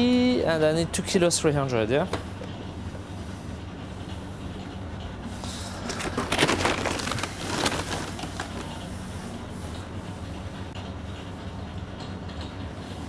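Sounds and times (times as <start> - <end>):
kitchen machinery hum: 0.0 - 13.0.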